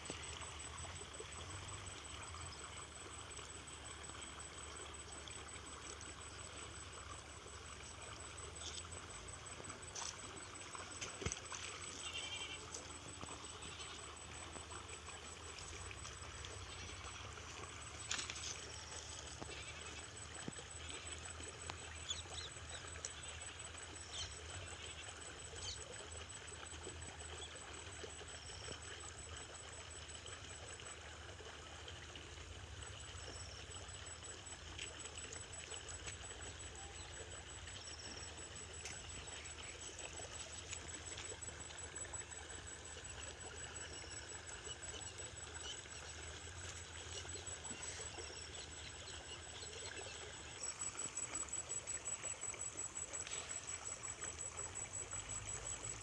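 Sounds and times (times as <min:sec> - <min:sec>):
faint trickle of water: 0:00.0 - 0:56.0.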